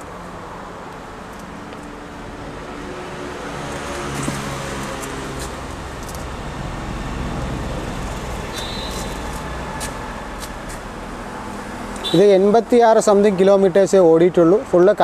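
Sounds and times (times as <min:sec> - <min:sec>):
motor vehicle rumble: 0:00.0 - 0:12.8.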